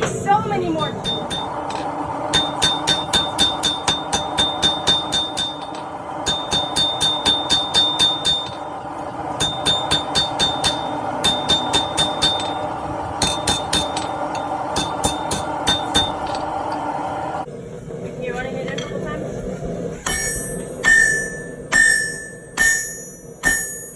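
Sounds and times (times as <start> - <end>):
steady hum: 0.0 - 23.9
hammer ringing on anvil: 1.0 - 16.7, 20.1 - 23.9.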